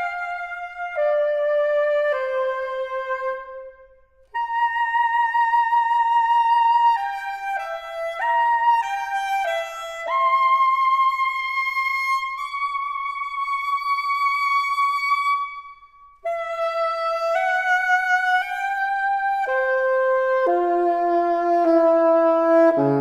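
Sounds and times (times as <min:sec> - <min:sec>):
solo alto saxophone: 0:00.0 - 0:12.8, 0:16.2 - 0:23.0.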